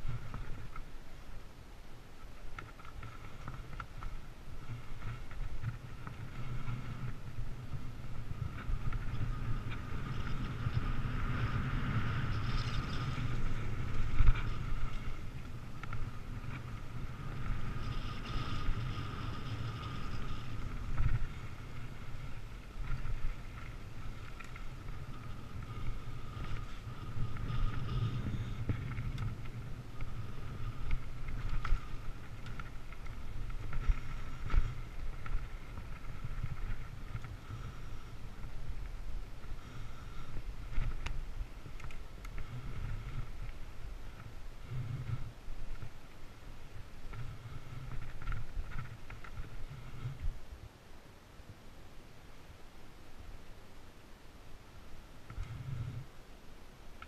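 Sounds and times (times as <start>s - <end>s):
bike tyres rumbling on dirt: 2.3s - 50.6s
wind buffeting microphone: 2.5s - 50.6s.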